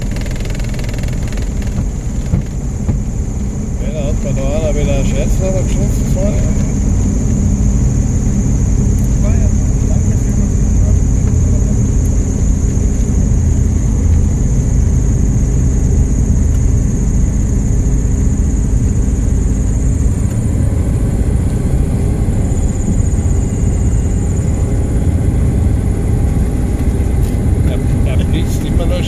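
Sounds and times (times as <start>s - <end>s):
aircraft engine and propeller drone: 0.0s - 29.0s.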